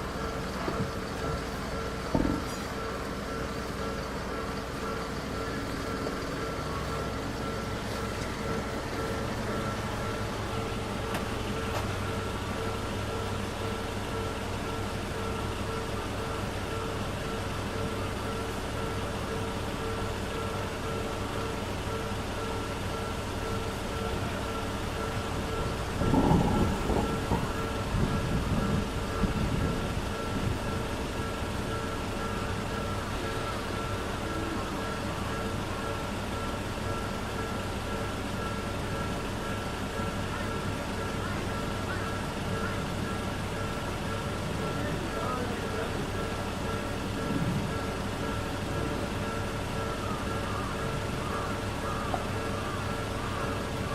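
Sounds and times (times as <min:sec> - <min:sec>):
faint steady tones: 0:00.0 - 0:53.9
level-crossing warning bell: 0:00.0 - 0:53.9
traffic rumble: 0:00.0 - 0:53.9.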